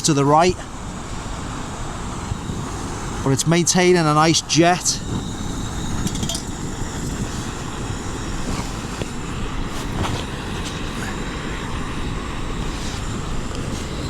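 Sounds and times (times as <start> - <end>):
gas stove burner rushing: 0.0 - 14.0
wind buffeting microphone: 0.0 - 14.0.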